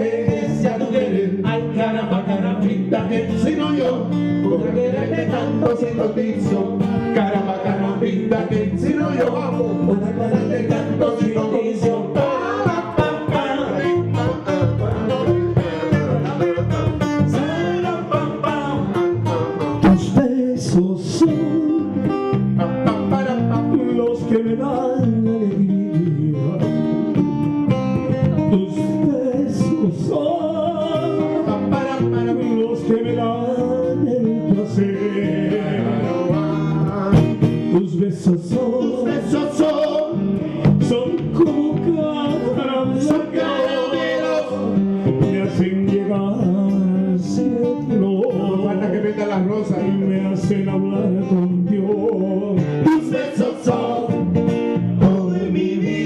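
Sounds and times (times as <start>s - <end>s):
man singing: 0.0s - 27.4s, 28.0s - 56.0s
acoustic guitar: 0.0s - 56.0s
electric bass guitar: 0.0s - 56.0s.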